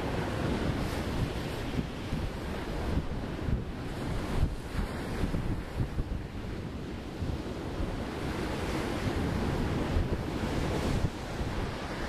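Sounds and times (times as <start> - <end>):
sea waves breaking on shore: 0.0 - 12.0
wind noise on microphone: 0.0 - 12.0.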